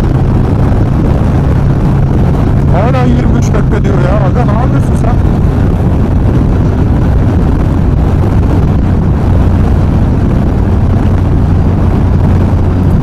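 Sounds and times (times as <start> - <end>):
motorcycle engine droning: 0.0 - 13.0
wind rushing over helmet: 0.0 - 13.0.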